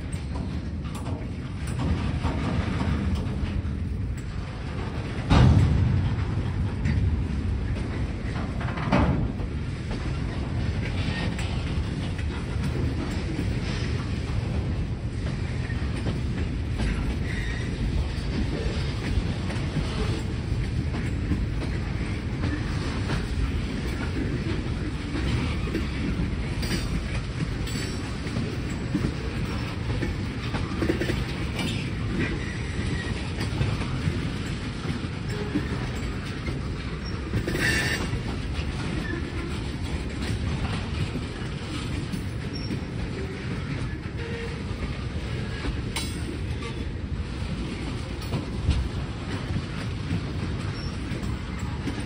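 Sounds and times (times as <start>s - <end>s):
sharp clicks of train wheels: 0.0s - 52.0s
train cars rumbling on track: 0.0s - 52.0s.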